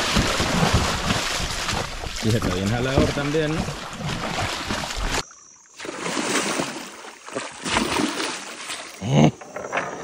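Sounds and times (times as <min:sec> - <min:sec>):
fish splashing in water: 0:00.0 - 0:05.2, 0:05.8 - 0:09.0.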